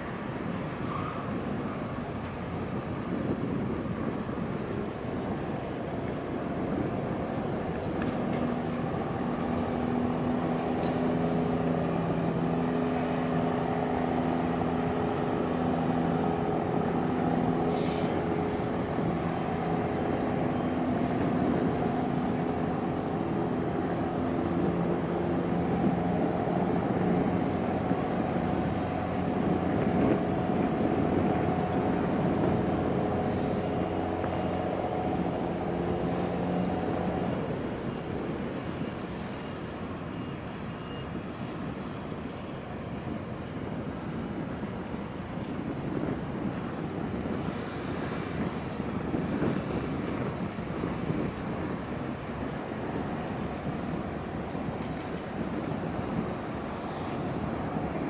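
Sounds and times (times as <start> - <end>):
boat diesel engine droning: 0.0 - 58.0
wind noise on microphone: 0.0 - 58.0.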